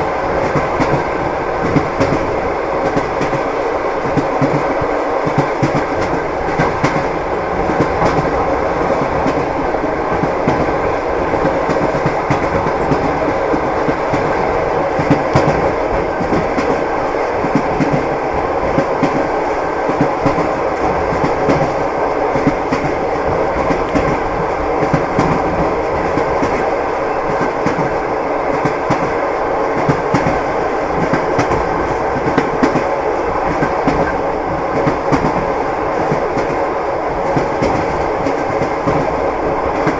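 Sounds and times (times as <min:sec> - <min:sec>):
rumble of moving train carriage: 0:00.0 - 0:39.9
train wheels clacking over rail joints: 0:00.3 - 0:36.6.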